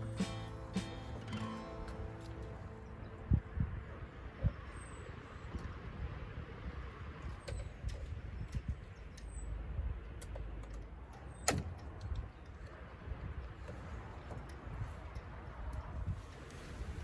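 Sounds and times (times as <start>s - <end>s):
wind rumble on microphone: 1.2s - 10.2s, 11.6s - 17.0s.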